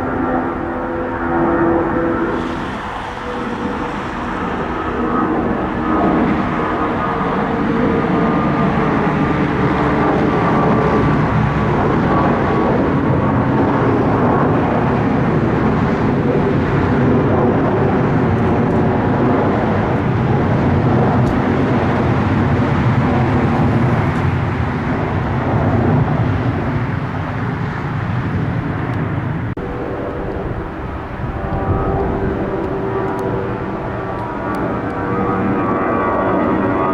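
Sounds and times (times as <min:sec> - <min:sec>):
airplane engines rumbling: 0:00.0 - 0:36.9.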